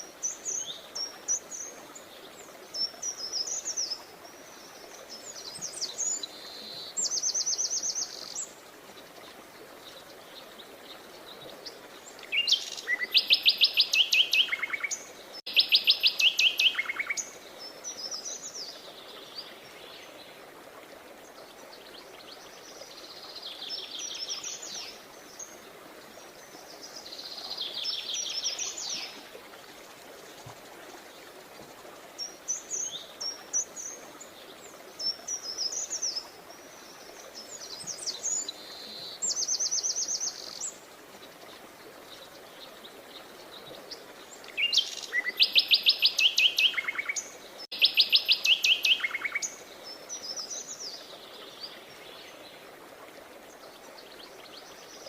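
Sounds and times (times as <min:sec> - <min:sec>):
faint outdoor hiss: 0:00.0 - 0:55.0.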